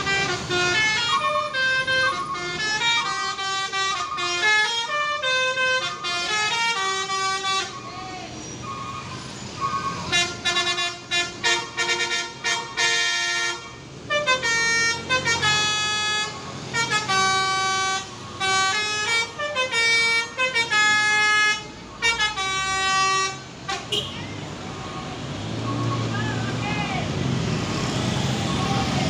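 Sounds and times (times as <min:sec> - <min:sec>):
bus musical horn playing a tune: 0:00.0 - 0:08.0, 0:08.6 - 0:24.4.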